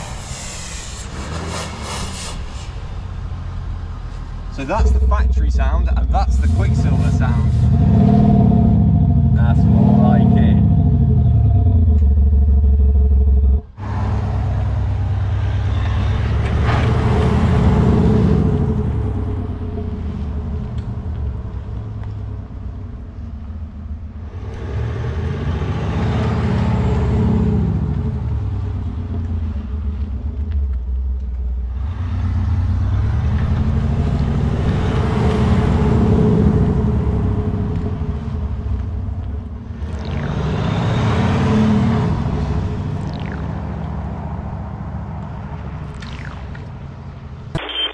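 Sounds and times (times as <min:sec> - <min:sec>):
vehicle with simulated engine note passing: 0:00.0 - 0:47.5.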